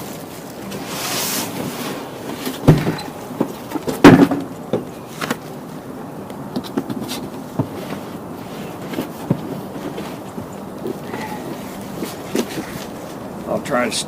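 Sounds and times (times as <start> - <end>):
cardboard scraping and rustling: 0.0 - 5.6, 6.6 - 13.2.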